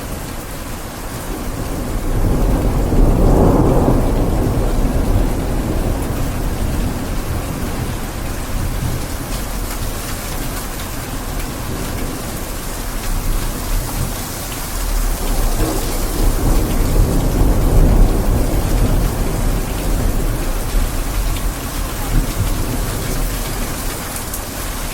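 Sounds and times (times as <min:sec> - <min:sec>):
steady rain: 0:00.0 - 0:24.9
thunder rumbling: 0:01.0 - 0:24.9.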